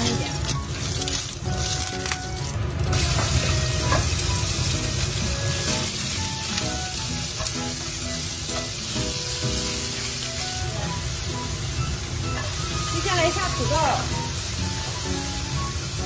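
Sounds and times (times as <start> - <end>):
garlic and pork sizzling in oil: 0.0 - 16.0.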